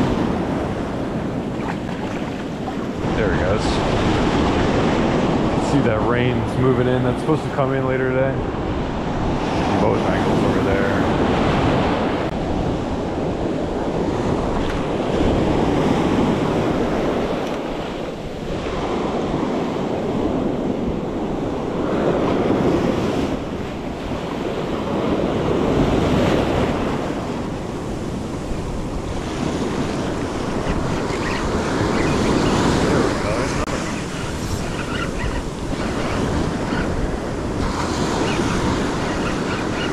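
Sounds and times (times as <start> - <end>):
ocean surf breaking on beach: 0.0 - 39.9
wind buffeting microphone: 0.0 - 39.9.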